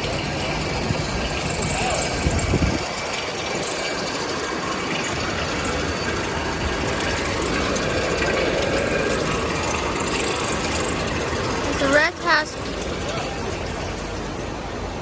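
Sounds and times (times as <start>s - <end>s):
faint steady whine: 0.0s - 15.0s
furnace machinery running: 0.0s - 15.0s.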